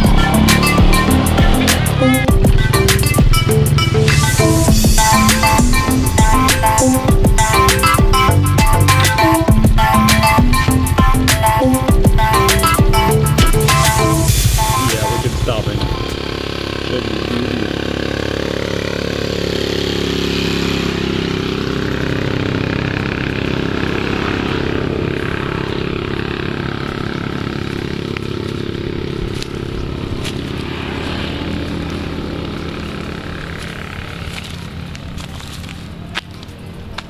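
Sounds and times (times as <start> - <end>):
motorcycle engine running: 0.0 - 37.0
road and wind noise: 0.0 - 37.0.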